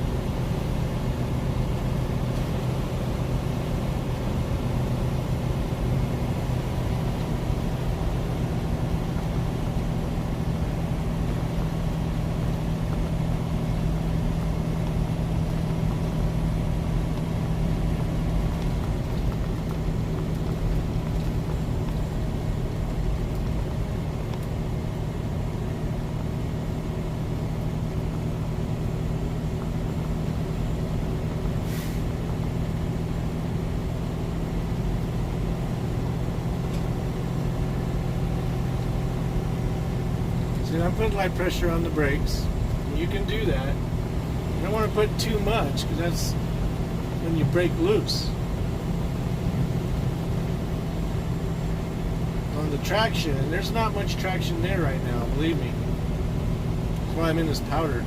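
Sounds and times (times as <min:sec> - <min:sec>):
diesel truck engine cruising: 0:00.0 - 0:58.0
road and wind noise: 0:00.0 - 0:58.0.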